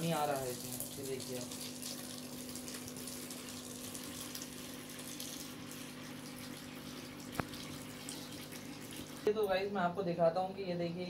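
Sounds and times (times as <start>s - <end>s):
water pouring into bucket: 0.0s - 9.3s.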